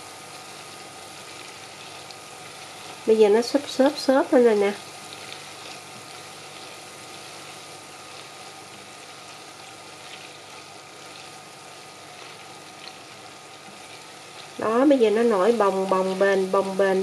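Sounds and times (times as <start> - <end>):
shallots sizzling in oil: 0.0 - 17.0.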